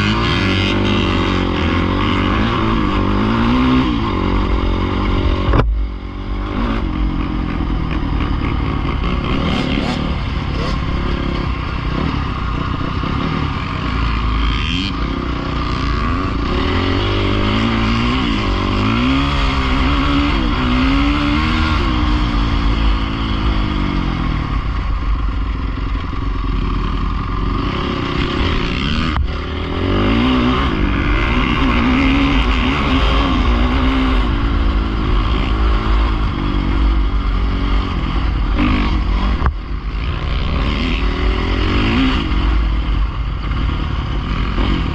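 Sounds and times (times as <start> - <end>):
dirt bike engines revving: 0.0 - 44.9.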